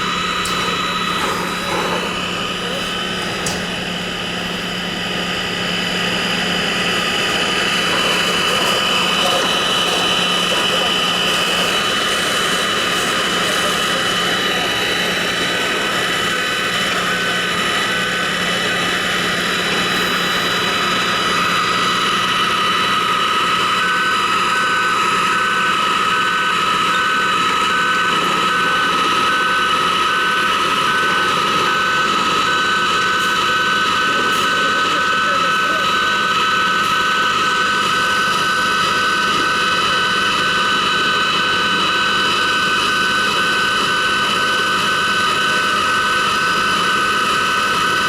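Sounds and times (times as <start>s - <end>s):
machinery whining and rushing: 0.0s - 23.8s, 25.0s - 42.5s.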